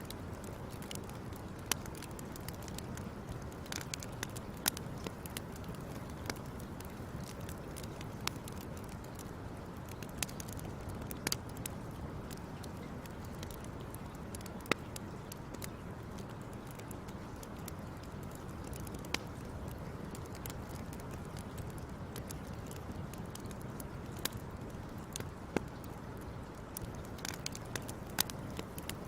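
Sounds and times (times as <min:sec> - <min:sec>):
fire pops and snaps: 0:00.0 - 0:29.0
low rumble of burning: 0:00.0 - 0:29.0.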